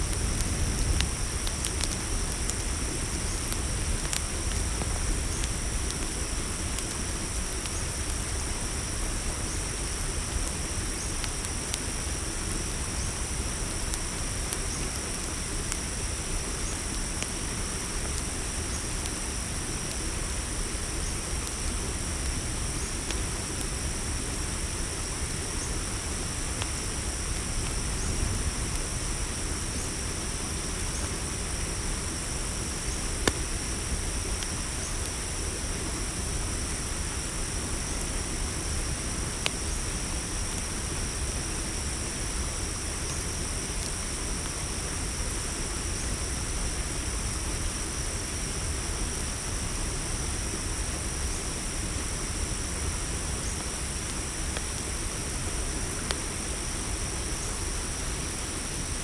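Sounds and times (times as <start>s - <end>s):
campfire crackling: 0.0s - 59.0s
crickets chirping: 0.0s - 59.0s.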